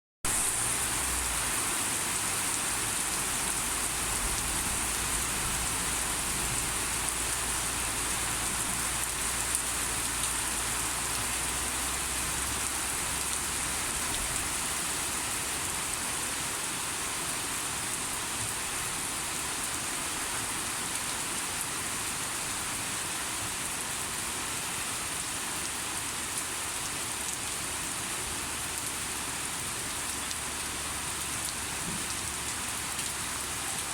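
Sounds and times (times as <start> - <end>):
heavy rain falling: 0.3 - 33.9.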